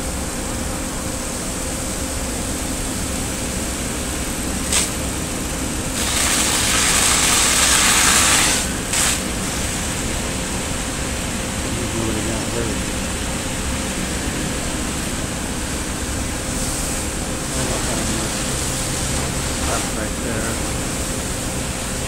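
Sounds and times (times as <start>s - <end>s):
fire engines humming: 0.0s - 22.0s.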